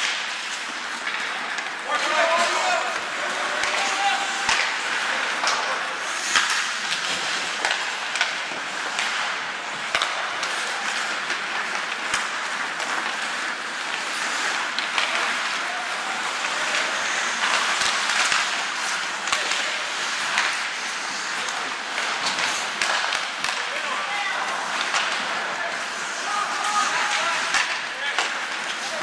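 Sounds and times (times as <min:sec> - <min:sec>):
skates scraping ice: 0:00.0 - 0:29.0
sticks and puck clacking: 0:00.0 - 0:29.0.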